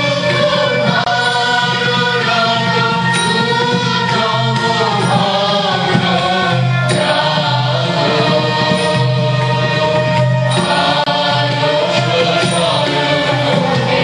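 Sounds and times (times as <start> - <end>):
group singing into microphones: 0.0 - 14.0
low accompaniment: 0.0 - 14.0.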